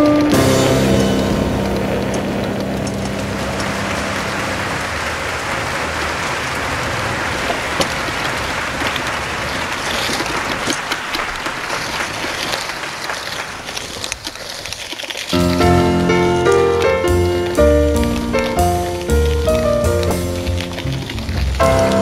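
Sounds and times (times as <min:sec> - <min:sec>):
bicycle trailer wheels rolling: 0:00.0 - 0:22.0
gravel crackling under wheels: 0:00.0 - 0:22.0.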